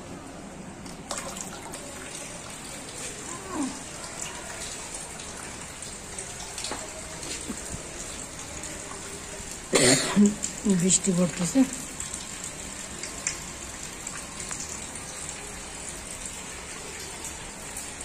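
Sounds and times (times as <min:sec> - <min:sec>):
rain on concrete rooftop: 0:00.0 - 0:18.0
drops splashing in puddles: 0:00.8 - 0:18.0.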